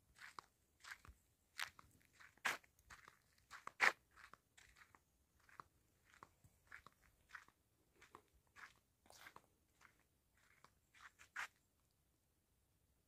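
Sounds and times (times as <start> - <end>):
footsteps crunching on dirt: 0.1 - 11.6.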